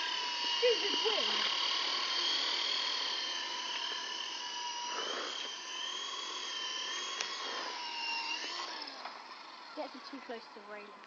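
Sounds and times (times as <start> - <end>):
remote-control helicopter whine: 0.0 - 11.0.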